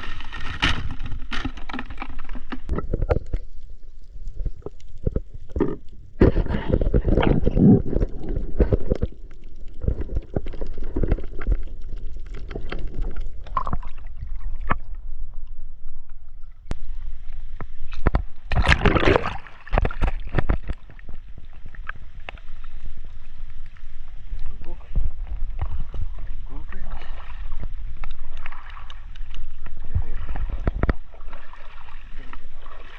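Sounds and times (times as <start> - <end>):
water splashing: 0.0 - 15.2, 18.0 - 23.7, 24.4 - 32.9
water sloshing and gurgling: 0.0 - 32.9.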